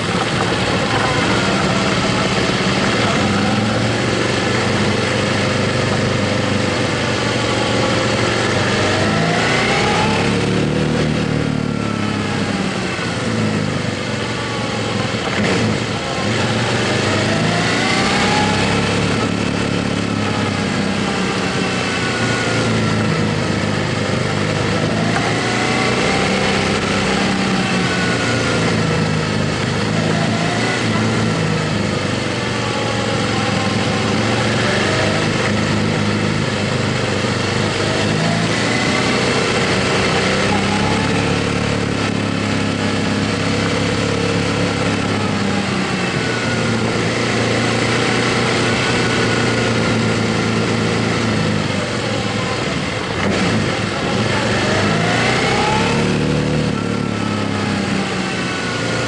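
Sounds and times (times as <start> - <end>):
steady rushing noise: 0.0 - 56.8
motorcycle engine running: 0.0 - 59.0.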